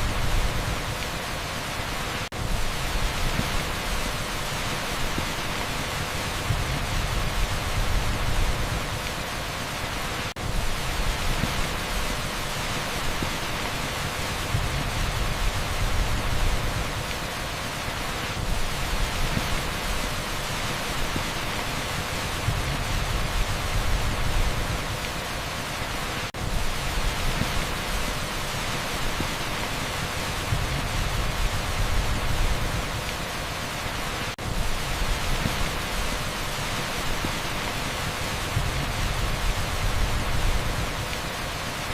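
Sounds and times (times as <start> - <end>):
torrential rain on asphalt: 0.0 - 41.9.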